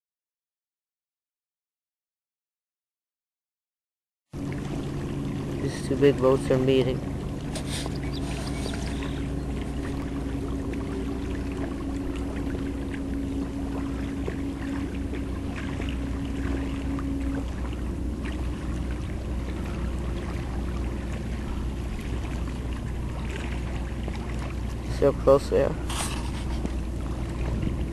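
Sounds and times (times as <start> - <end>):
low drone of freighters: 4.4 - 27.9
steady hum: 4.4 - 27.9
water lapping against kayak: 4.4 - 27.9.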